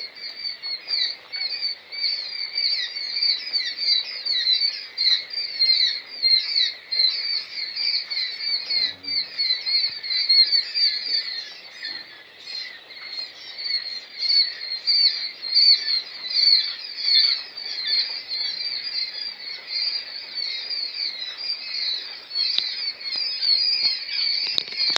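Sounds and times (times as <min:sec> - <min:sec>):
chicks peeping: 0:00.2 - 0:24.9.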